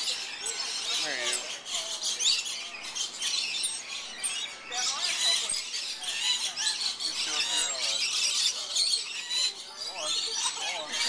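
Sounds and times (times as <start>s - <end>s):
parrots squawking and chattering: 0.0s - 11.0s.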